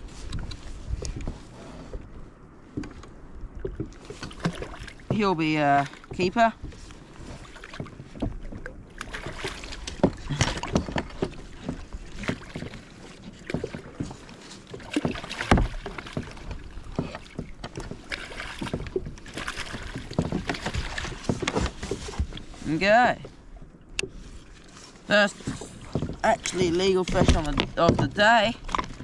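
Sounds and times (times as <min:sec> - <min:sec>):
knocks and clatters on kayak: 0:00.0 - 0:29.0
water splashing: 0:00.0 - 0:29.0.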